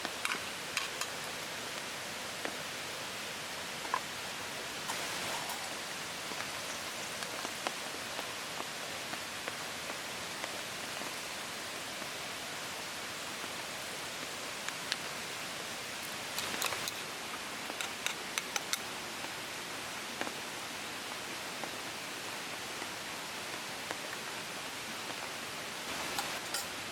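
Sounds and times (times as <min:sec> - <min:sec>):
rain hiss: 0:00.0 - 0:26.9.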